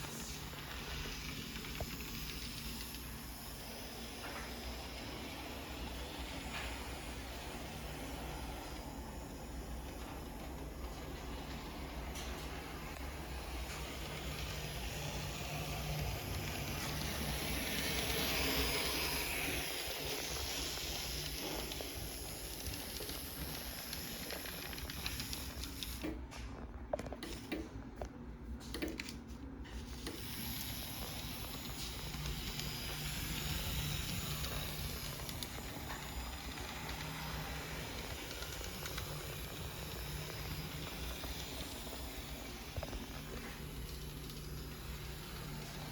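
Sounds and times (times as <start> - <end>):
electric motor hum: 0.0 - 26.1, 29.8 - 45.9
hiss of wheels on rail: 0.0 - 26.2, 29.7 - 45.9.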